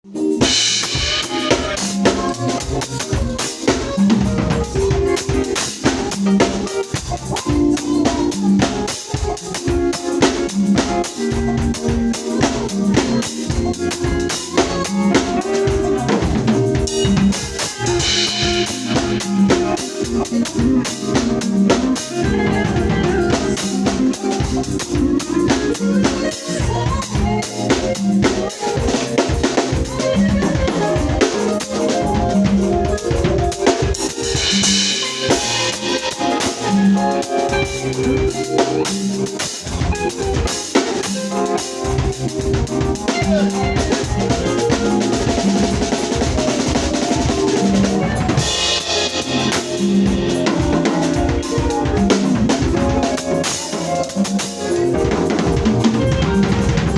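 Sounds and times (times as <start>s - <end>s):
band playing: 0.1s - 56.9s
drum kit beat: 0.1s - 56.9s.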